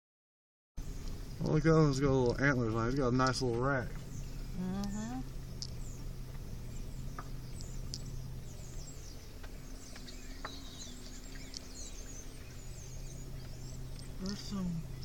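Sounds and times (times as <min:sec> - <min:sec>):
car engine running: 0:00.8 - 0:15.0
small birds chirping: 0:00.8 - 0:15.0.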